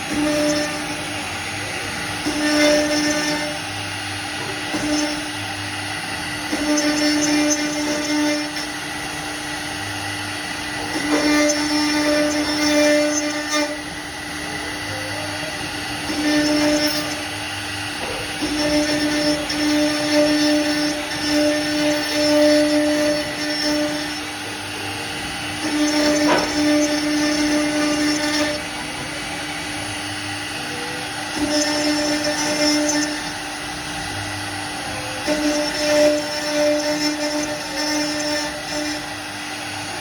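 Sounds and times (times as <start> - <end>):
router spindle cutting wood: 0.0 - 40.0.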